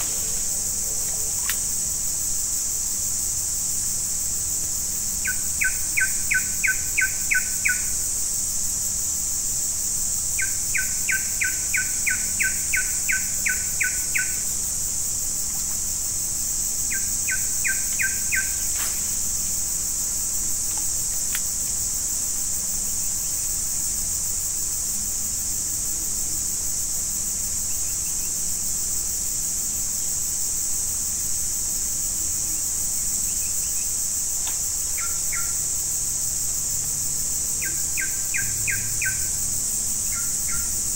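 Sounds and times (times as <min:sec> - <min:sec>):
forest insects chorus: 0:00.0 - 0:40.9.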